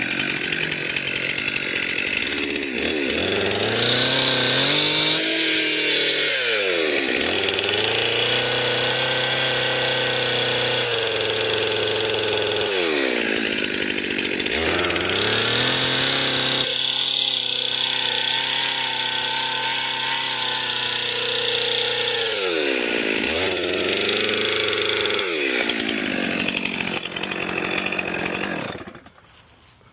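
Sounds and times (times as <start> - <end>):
chainsaw cutting tree trunk: 0.0 - 29.2.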